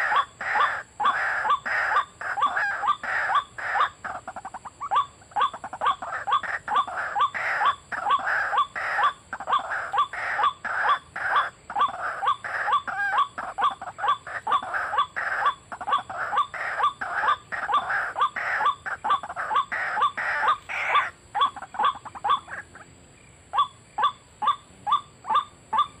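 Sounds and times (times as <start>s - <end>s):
waterhen harsh call: 0.0s - 22.8s.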